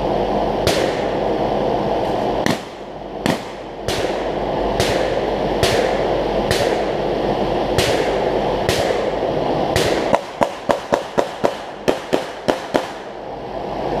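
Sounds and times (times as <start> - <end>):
steady rushing background noise: 0.0 - 14.0.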